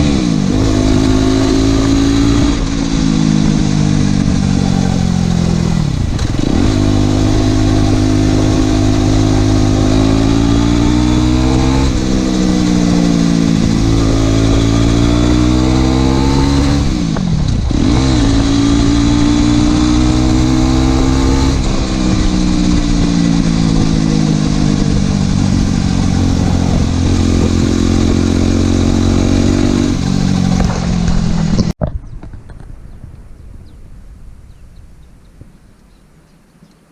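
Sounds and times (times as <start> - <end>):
motorcycle engine revving under load: 0.0 - 31.8.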